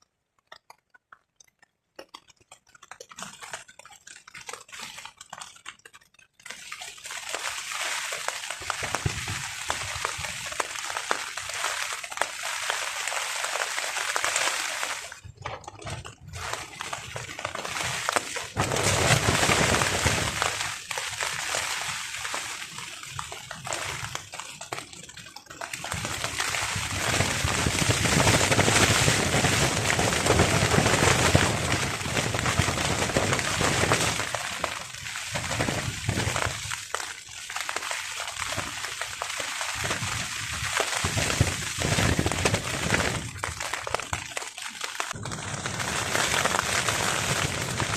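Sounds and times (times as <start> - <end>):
rain drumming on a tarp: 2.0 - 47.9.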